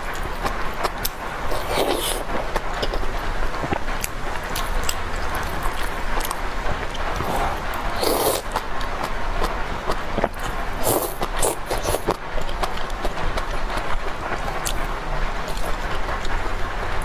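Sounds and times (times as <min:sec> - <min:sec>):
wet chewing with mouth clicks: 0:00.0 - 0:03.0, 0:03.6 - 0:14.9
steady background noise: 0:00.0 - 0:17.0.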